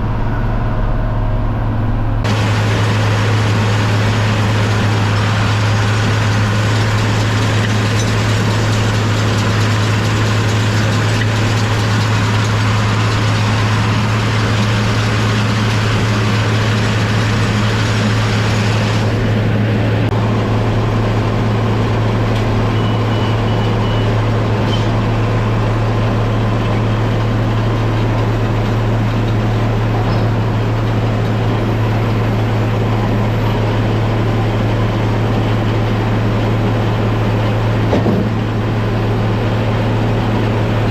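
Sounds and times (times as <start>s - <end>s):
tractor diesel engine hum: 0.0s - 40.9s.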